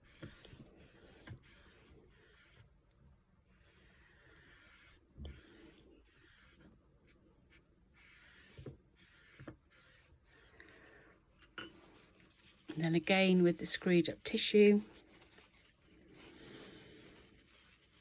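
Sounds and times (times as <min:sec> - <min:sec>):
paintbrush brushing on paper: 0:00.0 - 0:02.8, 0:03.4 - 0:18.0.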